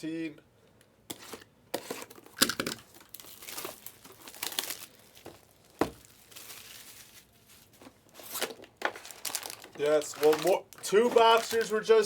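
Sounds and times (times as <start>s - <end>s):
plastic packaging crinkling: 2.1s - 12.0s.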